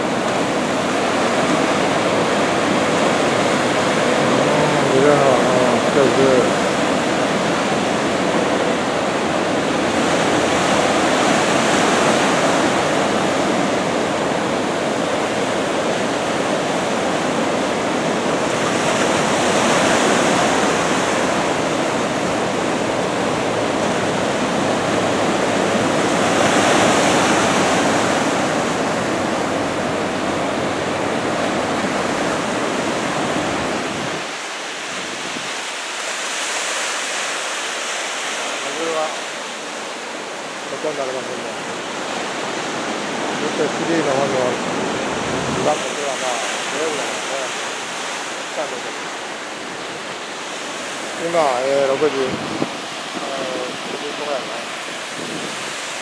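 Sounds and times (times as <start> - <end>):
deep rumble of surf: 0.0 - 56.0
ocean surf breaking: 0.0 - 56.0.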